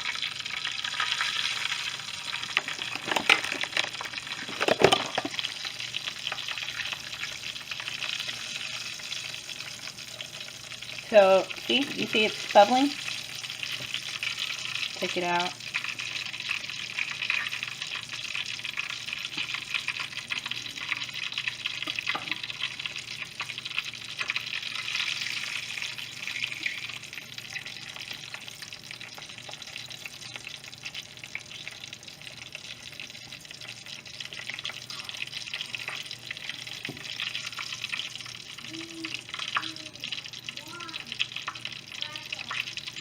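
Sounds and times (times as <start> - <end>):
tortillas sizzling in hot oil: 0.0 - 43.0.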